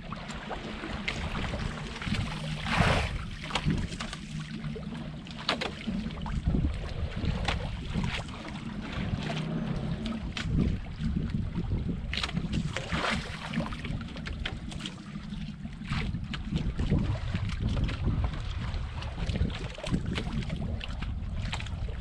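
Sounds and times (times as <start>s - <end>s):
wind on microphone: 0.0s - 4.9s, 5.9s - 22.0s
boat engine running: 0.0s - 22.0s
water slapping against hull: 0.0s - 22.0s.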